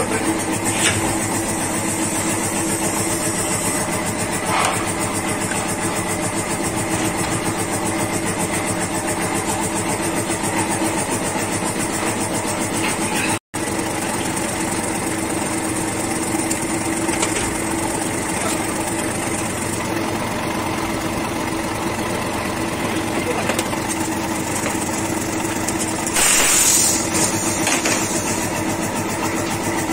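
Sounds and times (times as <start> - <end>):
motor humming: 0.0 - 29.9.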